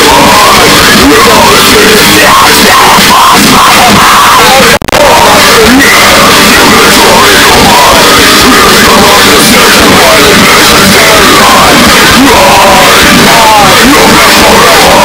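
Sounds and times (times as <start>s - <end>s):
heavy metal music: 0.0s - 15.0s.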